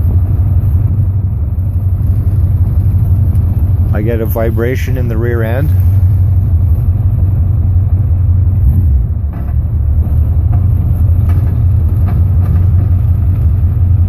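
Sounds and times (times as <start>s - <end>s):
truck drivetrain rumble: 0.0s - 14.0s.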